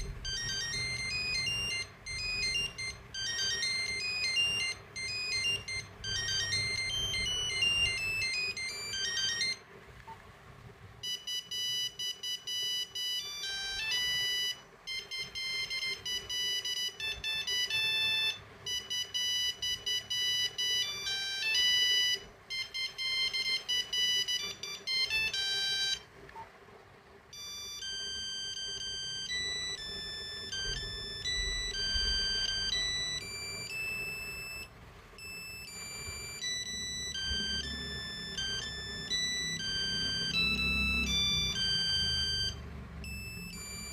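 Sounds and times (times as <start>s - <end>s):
monophonic phone ringtone beeps: 0.0s - 9.6s, 11.0s - 26.1s, 27.3s - 43.9s.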